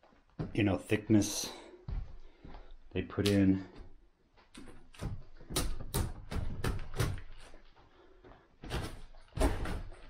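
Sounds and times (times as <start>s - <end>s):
footsteps on rotten wooden floor: 0.0s - 0.9s, 1.8s - 2.9s, 3.6s - 10.0s.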